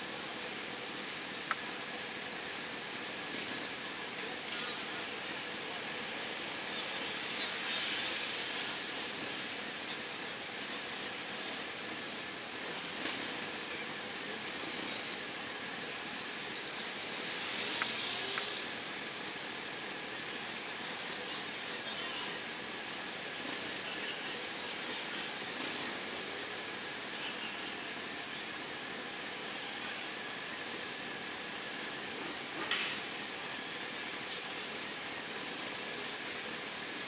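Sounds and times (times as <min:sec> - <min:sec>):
motorcycles idling: 0:00.0 - 0:37.0.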